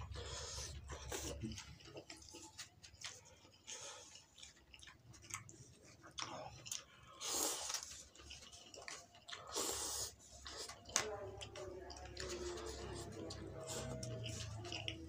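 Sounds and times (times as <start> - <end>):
chewing and slurping noodles: 0.0 - 15.0.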